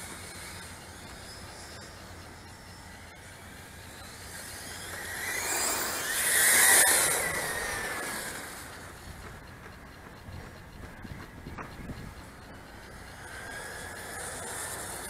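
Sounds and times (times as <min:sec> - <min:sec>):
model car passing by: 0:00.0 - 0:09.5, 0:12.0 - 0:15.0.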